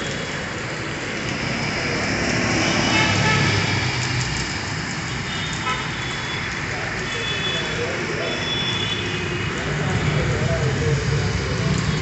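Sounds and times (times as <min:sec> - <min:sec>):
heavy rain pouring on road: 0:00.0 - 0:12.0
vehicle engines passing: 0:00.0 - 0:12.0.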